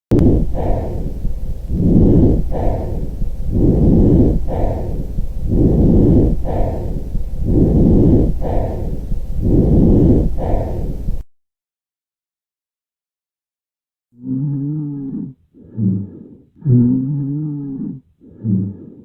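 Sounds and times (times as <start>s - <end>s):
lung breathing sounds: 0.1s - 11.3s, 14.2s - 19.0s.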